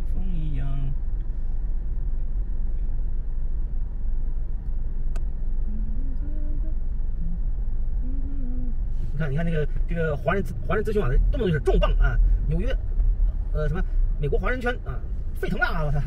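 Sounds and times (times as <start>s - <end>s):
car engine rumble inside cabin: 0.0s - 16.0s.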